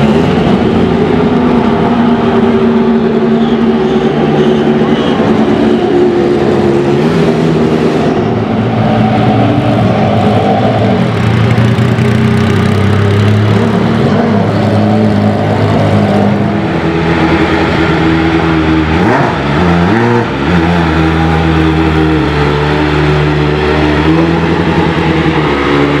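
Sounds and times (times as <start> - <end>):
race car engines running slowly: 0.0 - 26.0.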